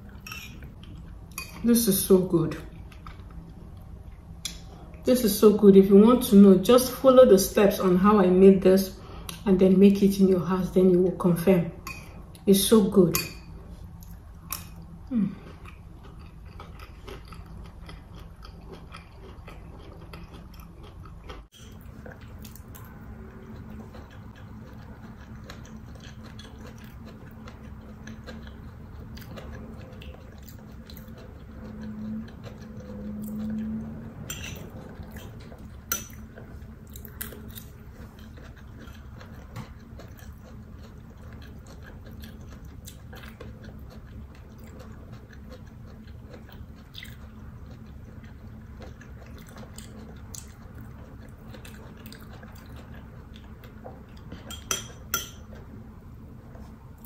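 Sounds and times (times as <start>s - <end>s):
person chewing food: 0.0s - 1.6s, 2.7s - 5.0s, 13.6s - 57.0s.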